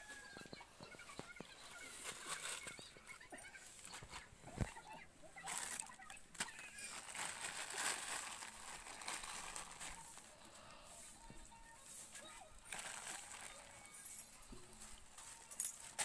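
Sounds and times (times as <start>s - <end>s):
plastic snack packet crinkling: 1.2s - 10.7s, 12.1s - 16.0s.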